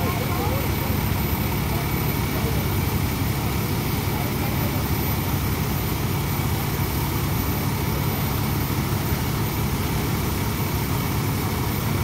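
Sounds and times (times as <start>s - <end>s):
heavy diesel engine drone: 0.0s - 12.0s.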